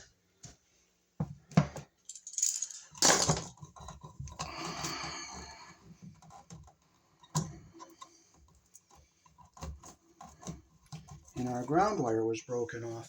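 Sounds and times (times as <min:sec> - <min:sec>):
hands rustling and scraping wires: 0:00.0 - 0:13.0.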